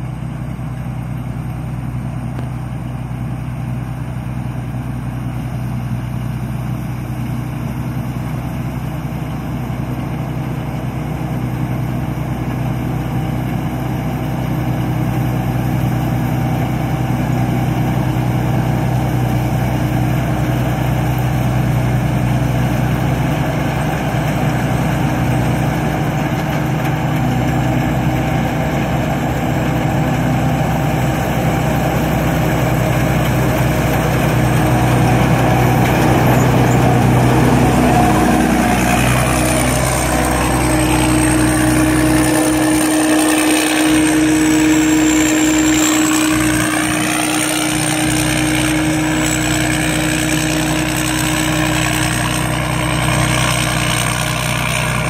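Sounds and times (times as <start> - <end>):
harvester diesel engine running: 0.0 - 55.0.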